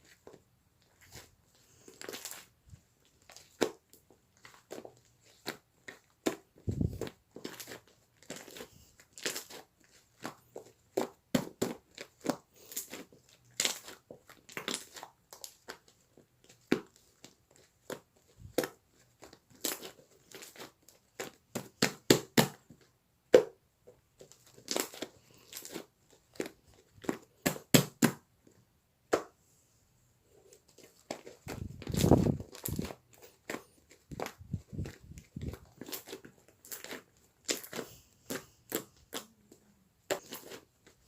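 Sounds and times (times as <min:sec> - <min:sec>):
slime squelching and crackling: 0:00.0 - 0:22.8, 0:24.1 - 0:28.3, 0:30.4 - 0:41.0.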